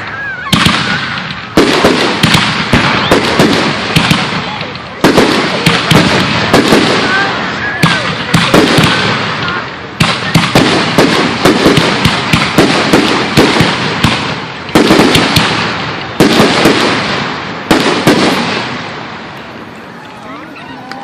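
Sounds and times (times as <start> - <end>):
fireworks bursting: 0.0 - 21.0
fireworks crackling: 0.0 - 21.0.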